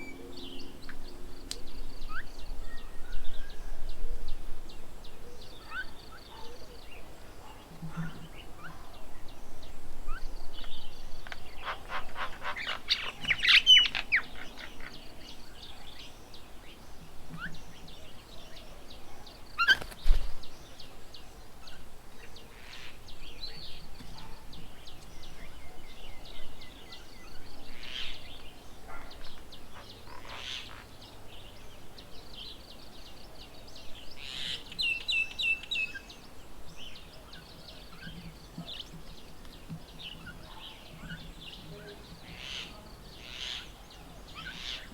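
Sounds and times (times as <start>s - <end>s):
wild birds chirping and calling: 0.0s - 44.9s.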